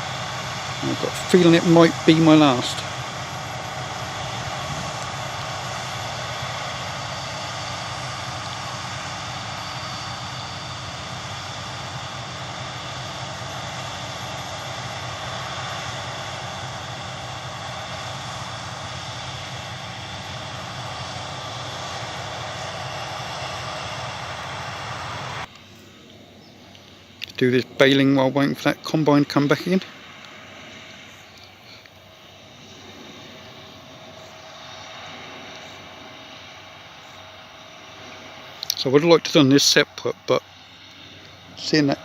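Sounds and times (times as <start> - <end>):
combine harvester droning: 0.0 - 42.0.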